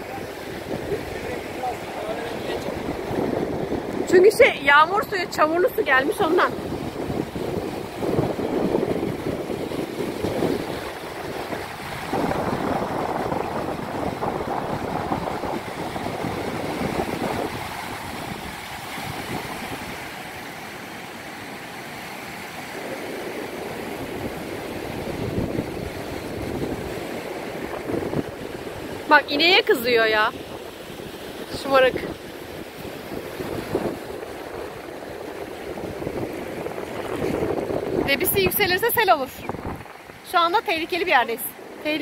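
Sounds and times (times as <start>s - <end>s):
waves washing up a sandy beach: 0.0s - 42.0s.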